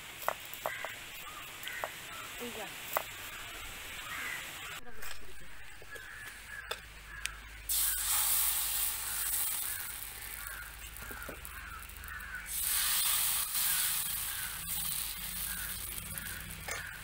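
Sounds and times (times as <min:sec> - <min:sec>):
batter sizzling in hot wok: 0:00.0 - 0:05.1, 0:06.0 - 0:17.0
crows cawing: 0:00.5 - 0:02.4, 0:03.3 - 0:04.8, 0:05.8 - 0:17.0.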